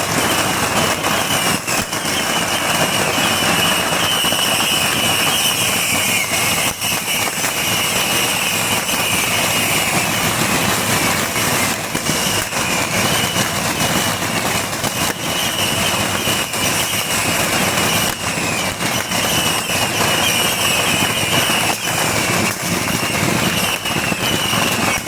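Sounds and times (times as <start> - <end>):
bottle rockets roaring and whistling: 0.0 - 25.0
sharp firework cracks: 0.0 - 25.0.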